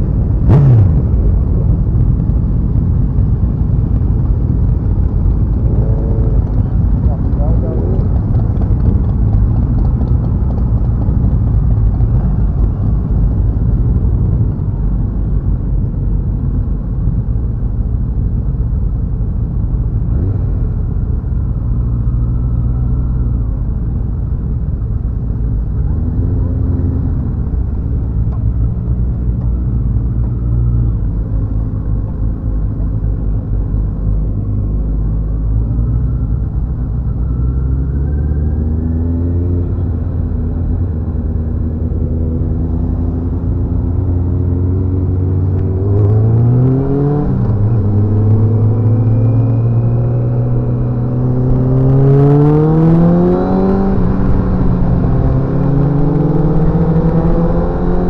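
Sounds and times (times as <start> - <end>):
motorcycle engine accelerating: 0.0 - 16.0, 19.0 - 58.0
motorcycle engines running: 0.0 - 58.0.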